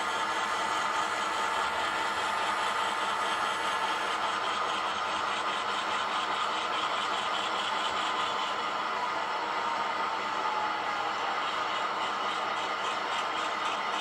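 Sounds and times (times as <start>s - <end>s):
model diesel locomotive engine sound: 0.0s - 14.0s.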